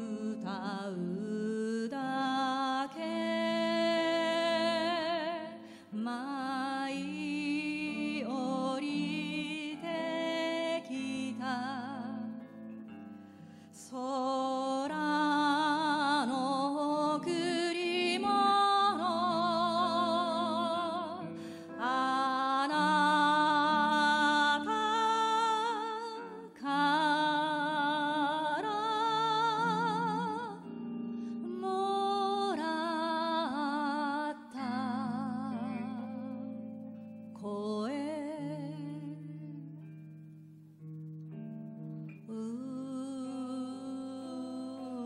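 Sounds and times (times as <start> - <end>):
woman singing with vibrato: 0.0 - 12.7, 13.7 - 39.9, 42.0 - 45.0
electric guitar: 0.0 - 45.0.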